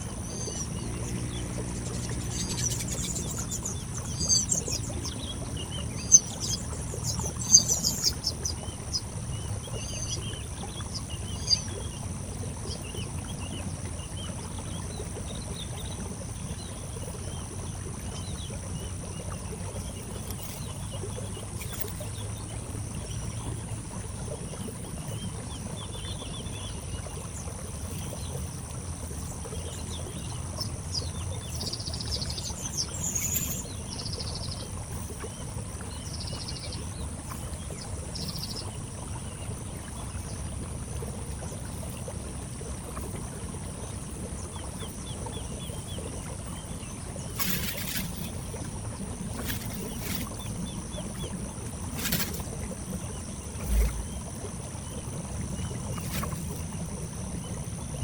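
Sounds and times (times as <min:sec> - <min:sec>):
small birds chirping: 0:00.0 - 0:28.5, 0:29.1 - 0:40.1, 0:44.5 - 0:58.0.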